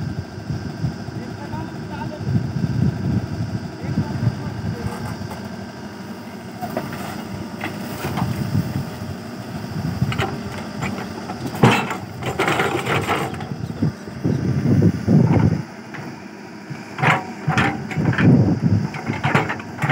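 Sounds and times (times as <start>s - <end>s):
diesel engine revving: 2.3s - 19.9s.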